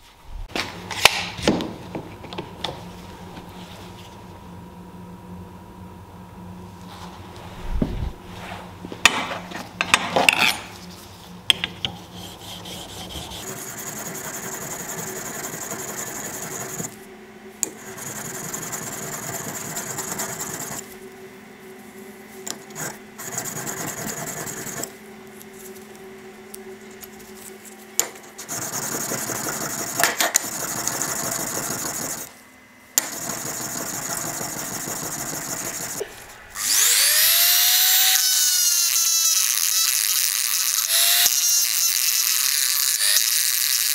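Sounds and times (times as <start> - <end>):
rotary tool whine: 6.8 - 43.9.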